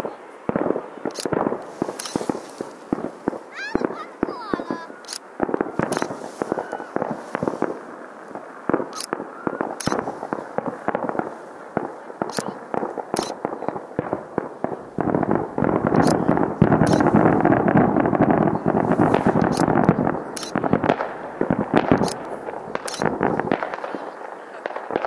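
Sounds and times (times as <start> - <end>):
fireworks bursts and crackling: 0.0 - 25.0
sharp firework reports: 0.0 - 25.0.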